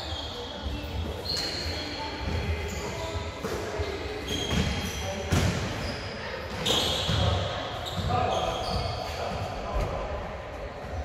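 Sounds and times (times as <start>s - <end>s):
sneakers squeaking on floor: 0.0s - 10.0s.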